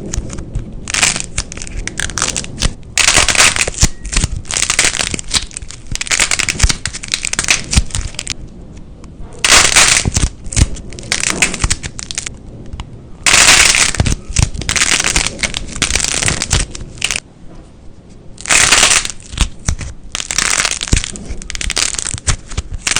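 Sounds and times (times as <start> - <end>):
slime squelching and popping: 0.1 - 8.4, 9.4 - 12.3, 13.2 - 17.2, 18.4 - 22.9.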